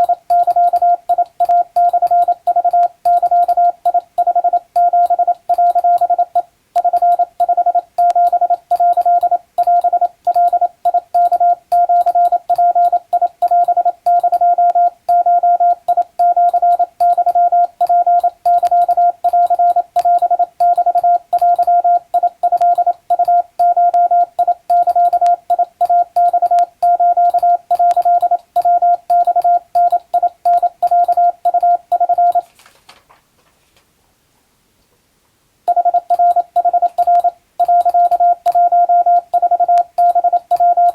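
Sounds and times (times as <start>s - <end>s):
morse code beeping: 0.0s - 32.4s, 35.7s - 40.9s.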